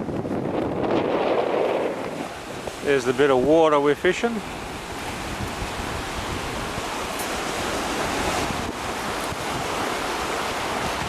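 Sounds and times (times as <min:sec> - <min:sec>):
surf on rocky shoreline: 0:00.0 - 0:11.0
wind buffeting microphone: 0:00.0 - 0:11.0.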